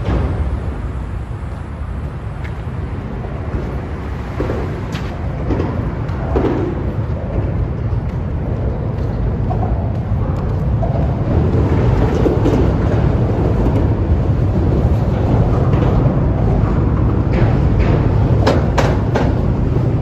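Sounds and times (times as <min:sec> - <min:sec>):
train rumbling across bridge: 0:00.0 - 0:20.0.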